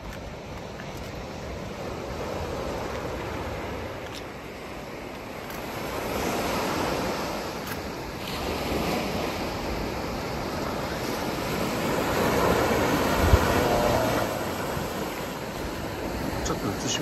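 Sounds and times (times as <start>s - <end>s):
surf washing onto rocky shore: 0.0s - 17.0s
wind on microphone: 0.0s - 17.0s.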